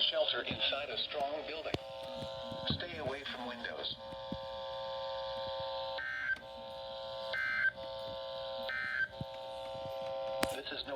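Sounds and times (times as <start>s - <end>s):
steady buzzing drone: 0.0s - 10.9s.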